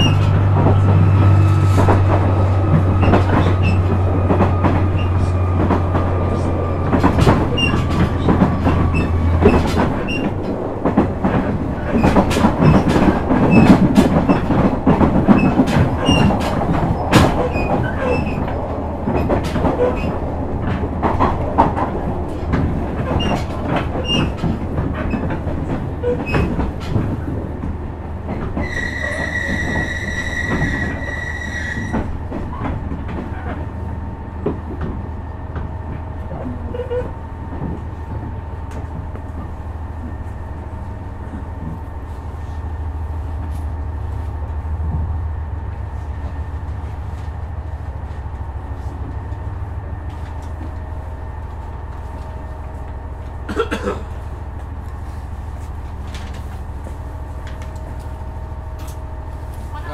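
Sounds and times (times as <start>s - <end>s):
wheel-on-rail noise: 0.0s - 35.0s, 35.6s - 59.9s
rail-joint clicks: 0.0s - 59.9s.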